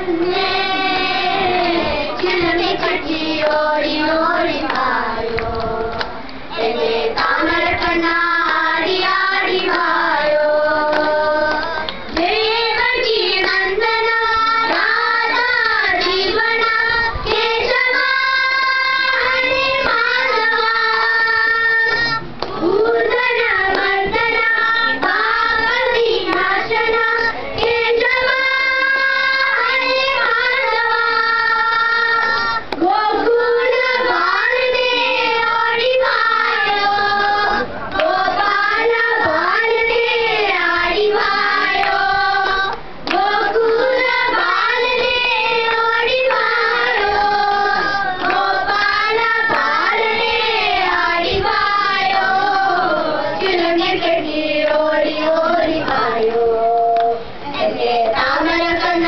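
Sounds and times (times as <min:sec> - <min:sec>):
children singing: 0:00.0 - 0:59.0.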